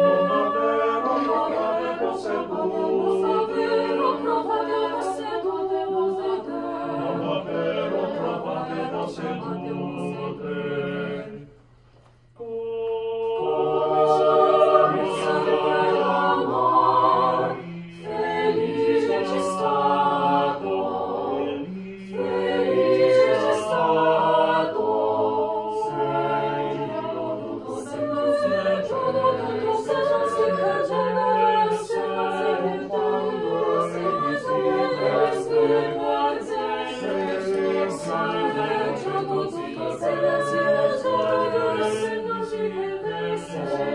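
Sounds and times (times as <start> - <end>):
choir singing a cappella: 0.0 - 43.9.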